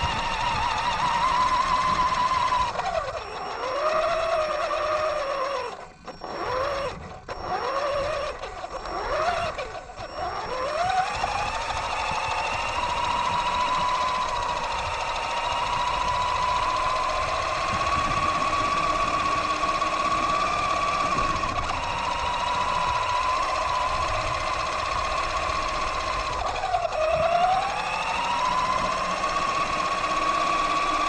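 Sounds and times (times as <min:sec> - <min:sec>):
electric motor whining: 0:00.0 - 0:31.0
tyres rumbling on asphalt: 0:00.0 - 0:31.0.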